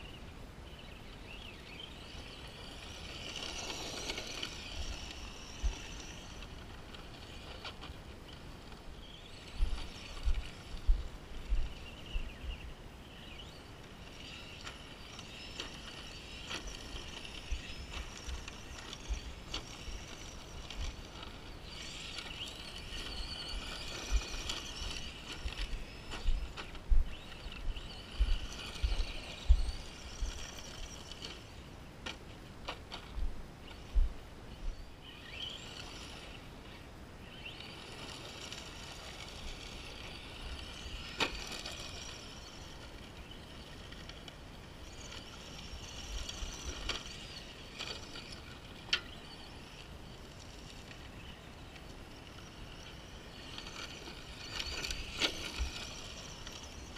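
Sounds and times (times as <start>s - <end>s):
toy car electric motor whining: 0.0s - 56.9s.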